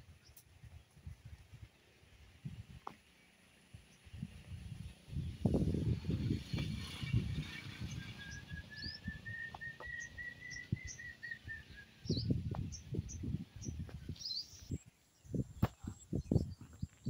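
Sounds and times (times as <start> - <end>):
small birds chirping: 0.0 - 5.8, 6.5 - 17.0
wind rumble on microphone: 0.0 - 17.0.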